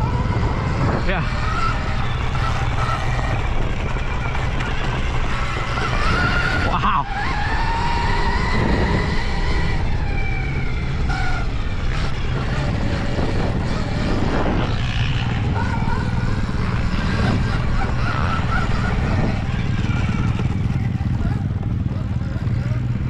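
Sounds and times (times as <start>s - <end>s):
electric motor whine: 0.0s - 23.0s
wind rumble on microphone: 0.0s - 23.0s.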